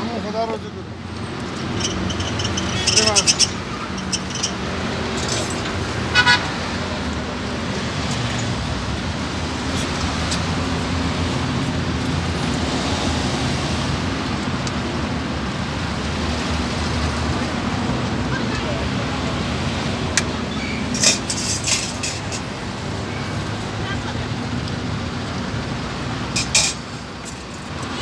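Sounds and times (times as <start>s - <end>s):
vehicle engines in street traffic: 0.0s - 28.0s.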